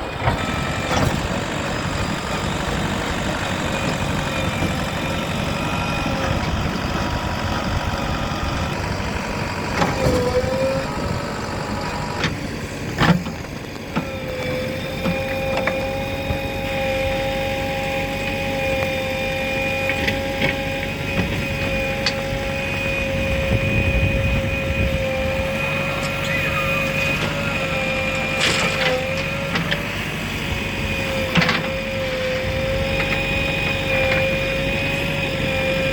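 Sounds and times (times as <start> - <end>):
heavy machinery engine running: 0.0 - 35.9.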